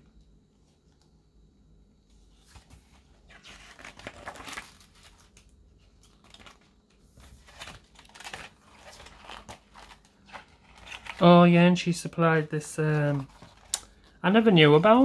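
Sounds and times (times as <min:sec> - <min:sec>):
book pages turning: 0:02.2 - 0:15.0.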